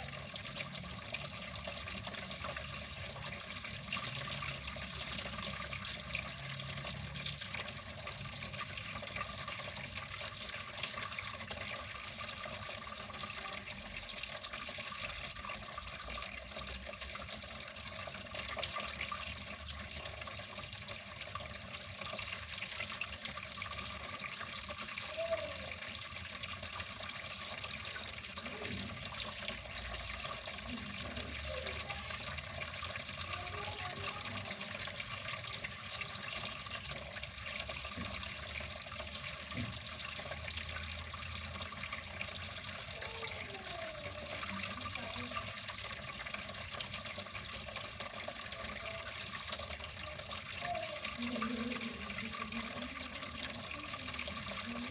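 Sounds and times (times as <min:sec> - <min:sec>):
water running: 0:00.0 - 0:54.9.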